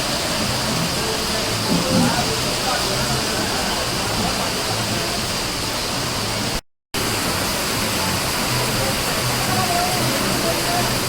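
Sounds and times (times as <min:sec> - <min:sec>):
heavy rain: 0:00.0 - 0:11.0
running water: 0:00.0 - 0:11.0.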